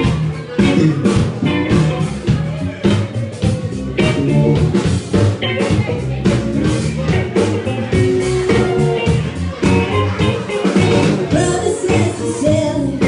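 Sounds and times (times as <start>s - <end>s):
live band playing: 0.0s - 13.0s
regular drum beat: 0.0s - 13.0s.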